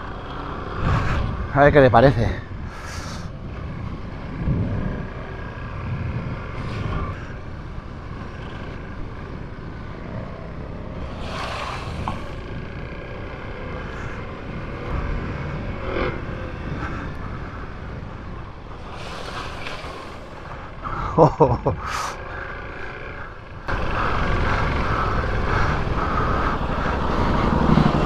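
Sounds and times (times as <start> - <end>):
wind and road noise: 0.0 - 28.0
motorcycle engine revving: 3.0 - 28.0.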